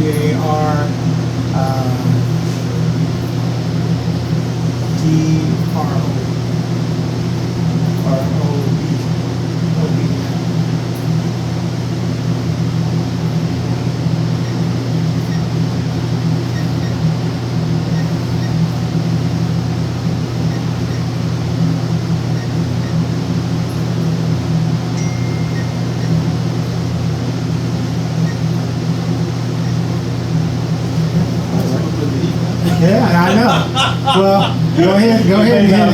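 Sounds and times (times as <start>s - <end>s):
low machine hum: 0.0s - 35.9s.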